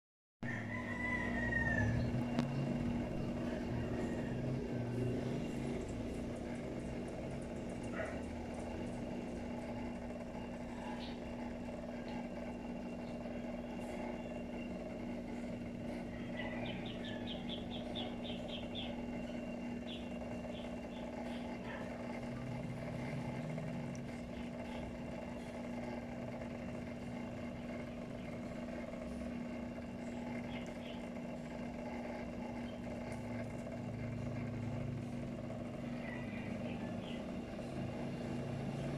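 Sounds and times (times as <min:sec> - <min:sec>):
low hum: 0:00.4 - 0:38.9.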